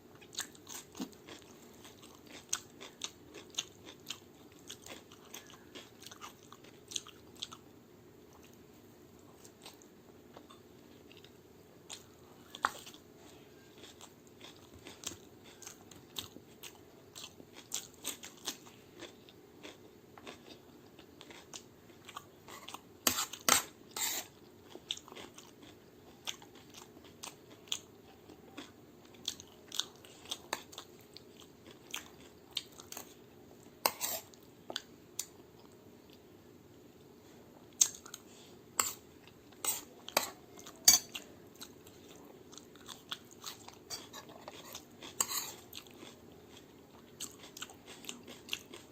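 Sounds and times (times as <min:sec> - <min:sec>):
person chewing crunchy food: 0:00.2 - 0:07.6, 0:08.3 - 0:36.2, 0:37.6 - 0:48.9.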